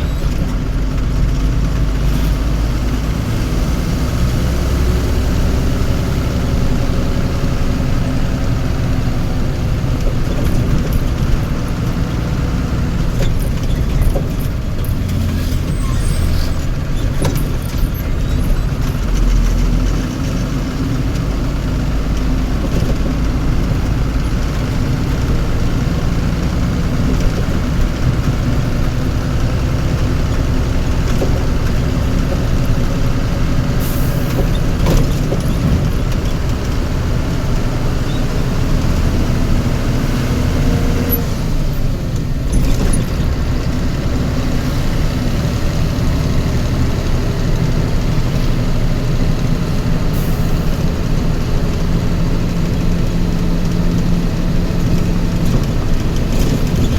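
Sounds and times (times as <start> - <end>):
vehicle engine rumbling: 0.0 - 56.9.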